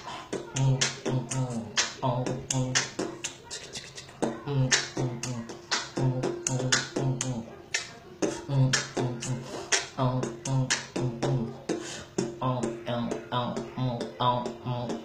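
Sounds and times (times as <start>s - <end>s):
beatboxing snare mouth sounds: 0.0s - 15.0s.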